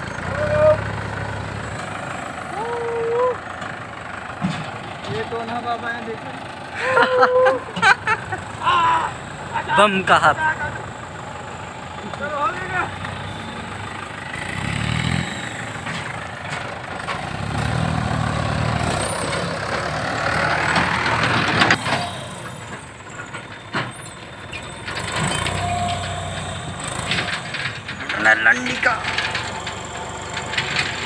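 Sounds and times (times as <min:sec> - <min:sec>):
tractor diesel engine revving: 0:00.0 - 0:31.0.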